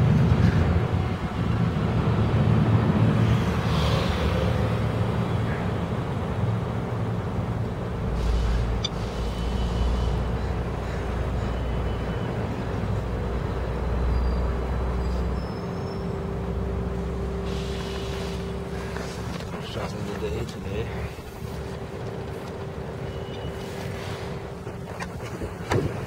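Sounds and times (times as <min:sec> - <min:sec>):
motor vehicle rumble: 0:00.0 - 0:26.0
steady traffic hum: 0:00.0 - 0:26.0.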